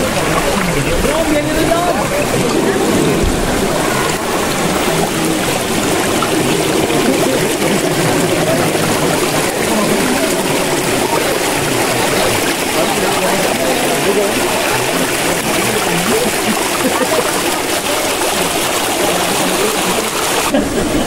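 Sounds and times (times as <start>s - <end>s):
water rushing: 0.0s - 21.0s.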